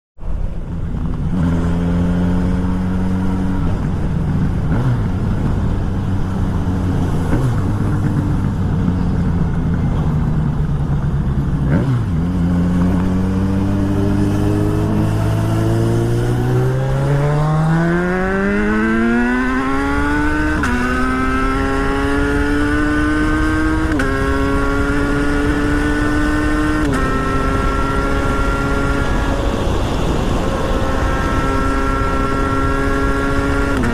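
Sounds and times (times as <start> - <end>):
motorcycle engine accelerating: 0.3 - 33.9.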